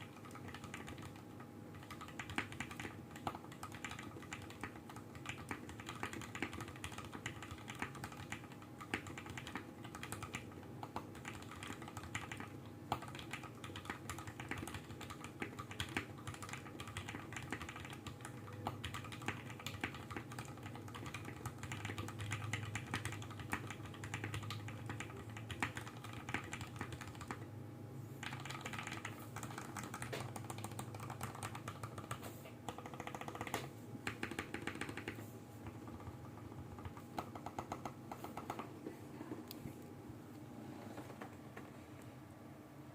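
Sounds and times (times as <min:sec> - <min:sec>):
mechanical keyboard typing: 0:00.0 - 0:27.5, 0:28.2 - 0:38.7
faint low hum: 0:00.0 - 0:42.9.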